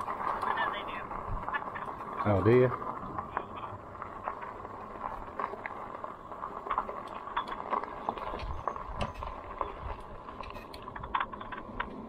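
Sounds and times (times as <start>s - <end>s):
e-bike rolling: 0.0s - 12.0s
small clicks and rattles: 0.0s - 12.0s.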